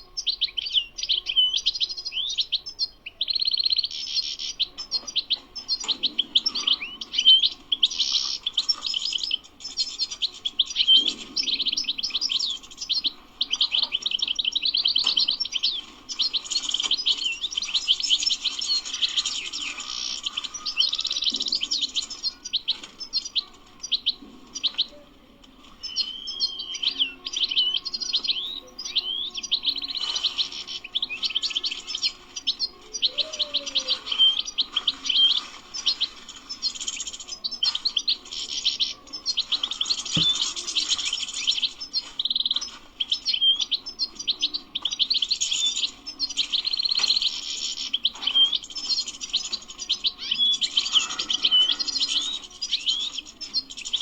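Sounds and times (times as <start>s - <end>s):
bird twittering and trilling: 0.0s - 54.0s.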